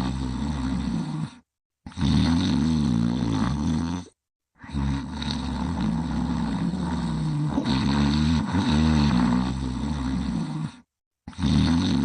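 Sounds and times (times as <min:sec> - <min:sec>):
person snoring: 0:00.0 - 0:12.0.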